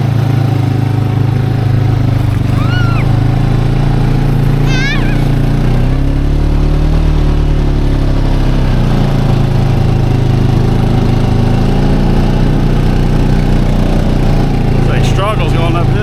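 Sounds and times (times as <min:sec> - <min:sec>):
atv engine labouring: 0:00.0 - 0:16.0.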